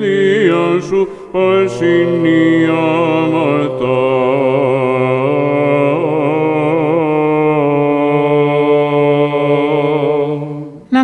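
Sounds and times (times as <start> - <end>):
men chanting: 0.0 - 10.8
held vocal drone: 0.0 - 11.0.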